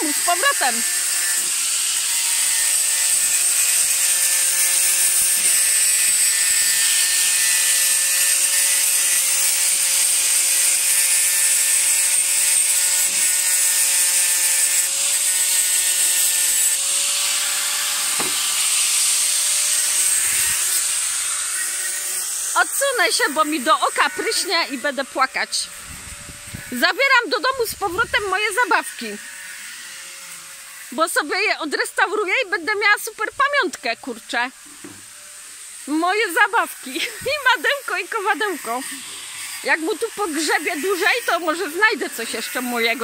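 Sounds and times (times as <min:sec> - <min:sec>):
angle grinder grinding metal: 0:00.0 - 0:43.0.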